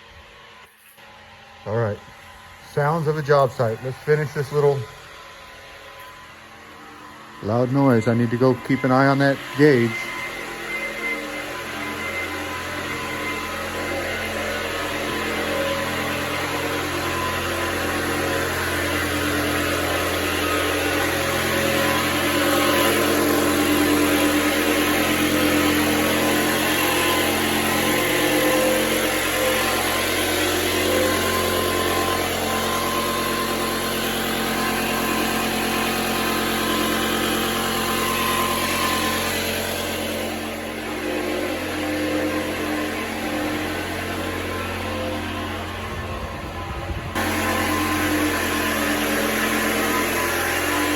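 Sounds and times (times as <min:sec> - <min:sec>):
air compressor running: 0:00.0 - 0:50.9.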